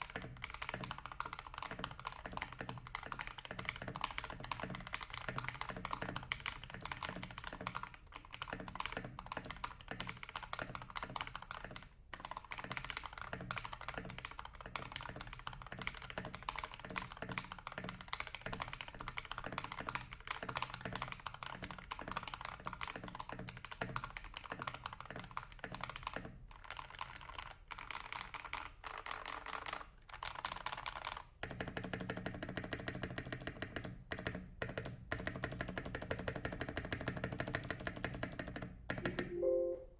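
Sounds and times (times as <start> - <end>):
fast mechanical keyboard typing: 0.0 - 39.4.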